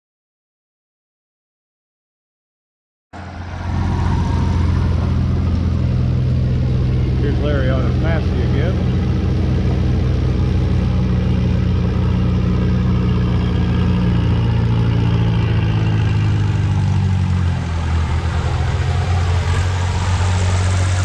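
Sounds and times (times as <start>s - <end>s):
tractor engine under load: 3.2s - 21.0s.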